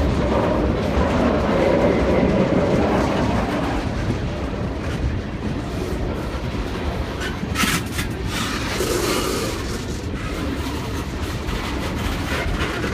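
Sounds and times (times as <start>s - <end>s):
train wheels rumbling on rail: 0.0s - 12.9s.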